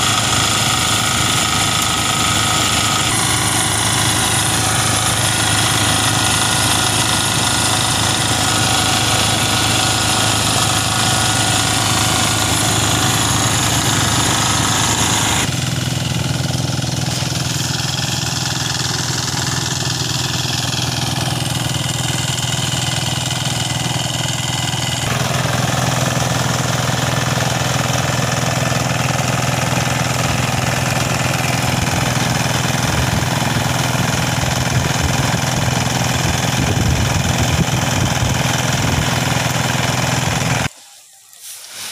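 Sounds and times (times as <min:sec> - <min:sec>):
diesel engine running: 0:00.0 - 0:40.7
threshing machine: 0:00.0 - 0:40.8.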